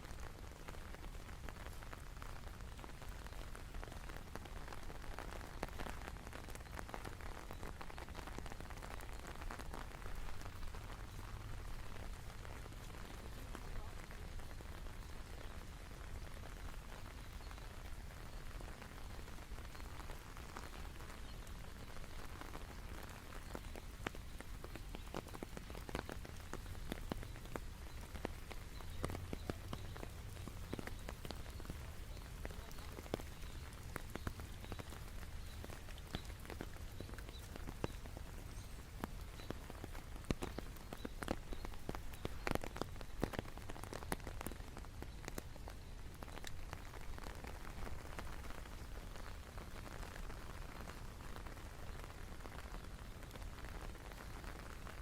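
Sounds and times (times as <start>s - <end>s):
raindrops ticking close by: 0.0s - 55.0s
steady rain falling: 0.0s - 55.0s.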